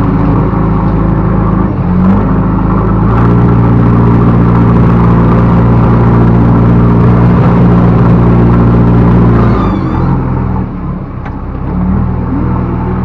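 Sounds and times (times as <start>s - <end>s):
diesel engine at high revs: 0.0s - 13.0s.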